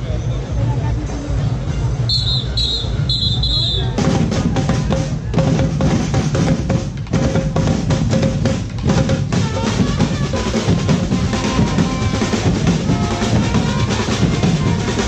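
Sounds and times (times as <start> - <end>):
drum band playing: 2.2 - 15.0.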